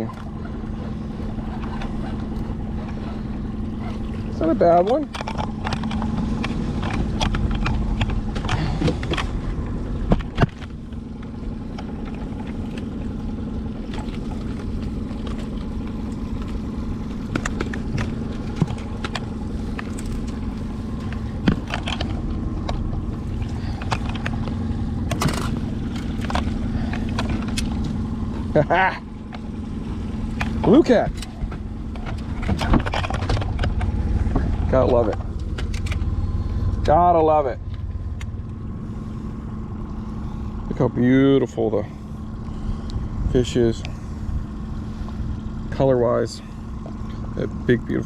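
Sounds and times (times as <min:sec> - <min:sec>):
knocks and clatter on boat: 0:00.0 - 0:38.6
boat motor running: 0:00.0 - 0:48.0.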